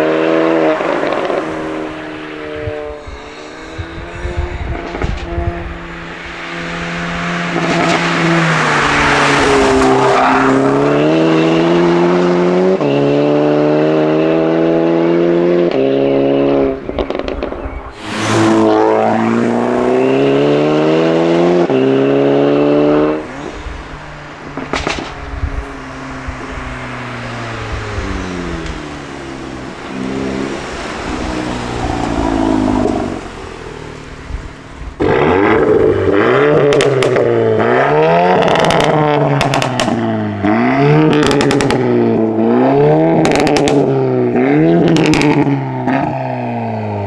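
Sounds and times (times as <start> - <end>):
car engine accelerating hard: 0.0 - 47.0.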